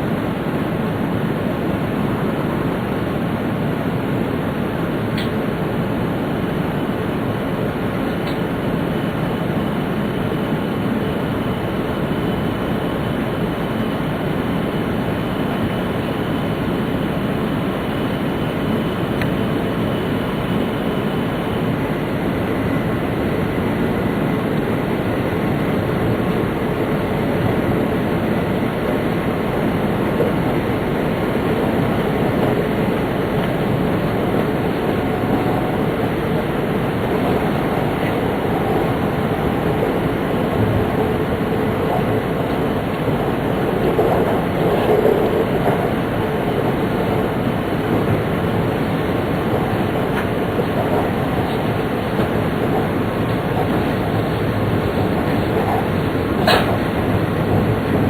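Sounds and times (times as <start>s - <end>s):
train interior rumble and hiss: 0.0s - 58.0s.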